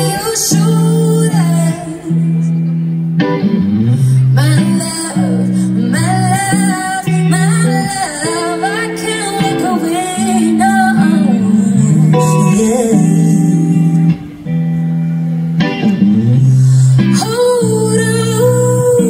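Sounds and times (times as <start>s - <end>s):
woman singing: 0.0s - 2.6s, 4.1s - 14.3s, 16.6s - 19.0s
sustained bass notes: 0.0s - 8.0s, 9.6s - 19.0s
electric guitar: 0.0s - 19.0s.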